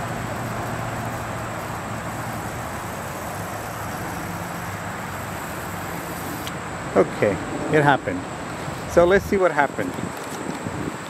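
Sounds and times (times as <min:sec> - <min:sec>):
sprinkler water spraying hiss: 0:00.0 - 0:11.0.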